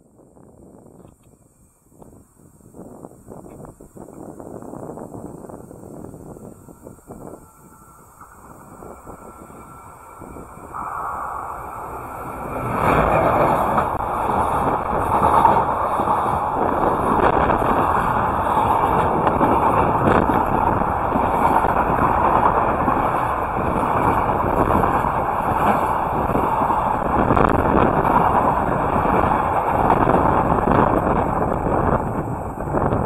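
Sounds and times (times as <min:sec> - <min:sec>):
locomotive passing: 0:05.1 - 0:33.0
freight wagon wheels rumbling: 0:05.2 - 0:33.0.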